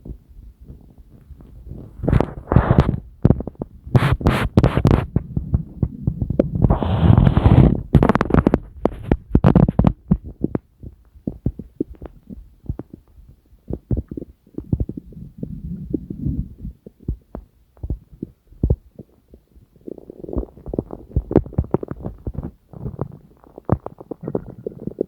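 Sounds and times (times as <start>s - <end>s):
stomach gurgling: 0.0s - 25.0s.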